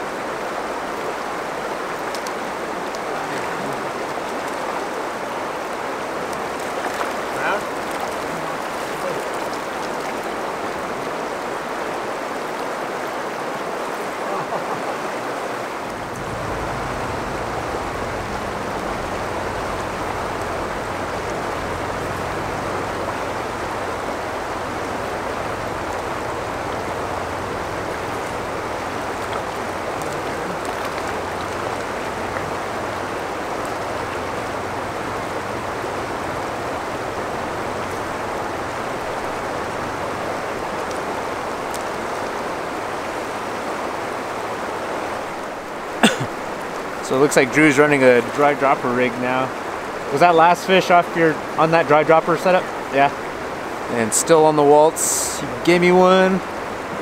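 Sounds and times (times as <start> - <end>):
river current rushing: 0.0 - 57.0.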